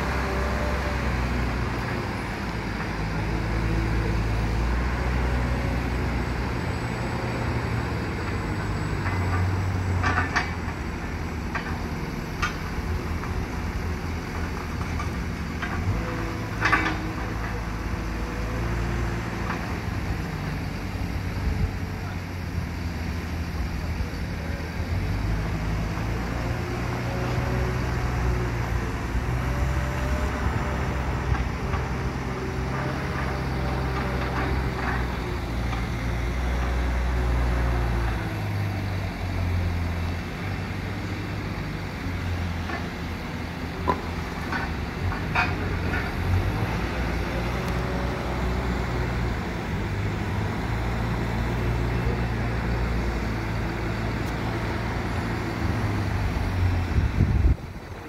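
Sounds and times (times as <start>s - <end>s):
wheel loader diesel engine: 0.0s - 58.0s.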